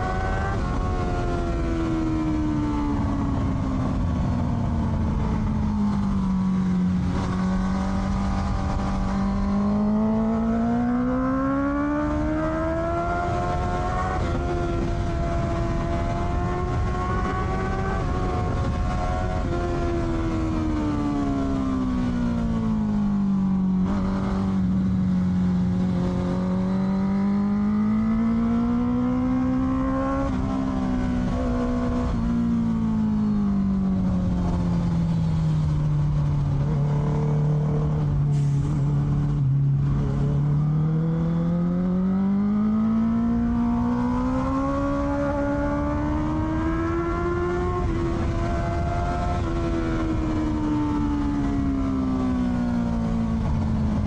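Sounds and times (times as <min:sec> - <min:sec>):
motorcycle engine: 0:00.0 - 0:54.0
wind and road noise: 0:00.0 - 0:54.0.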